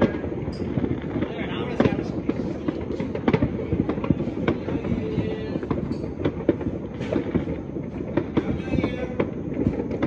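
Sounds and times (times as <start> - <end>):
distant fireworks crackling: 0.0 - 10.0.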